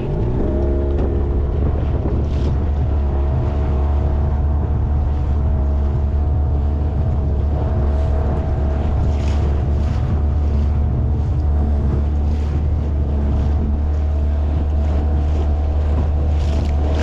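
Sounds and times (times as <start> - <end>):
waves washing against boat: 0.0 - 17.0
wind buffeting microphone: 0.0 - 17.0.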